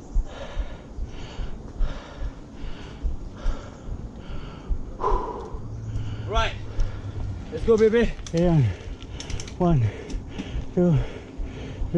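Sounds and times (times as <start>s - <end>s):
person breathing hard: 0.0s - 7.6s, 8.4s - 11.9s.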